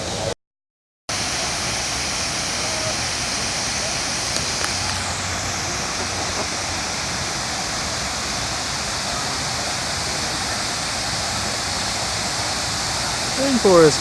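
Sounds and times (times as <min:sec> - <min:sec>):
water rushing from a fountain: 0:01.1 - 0:14.0.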